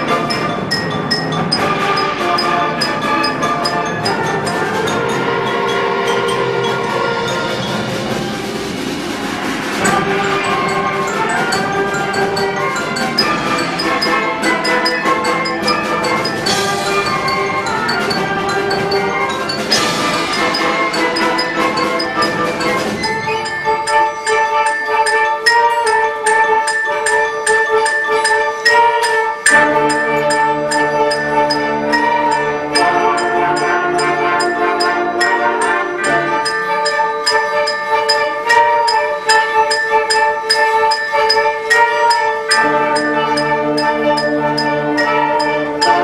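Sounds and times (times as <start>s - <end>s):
concert band playing chords: 0.0s - 46.0s.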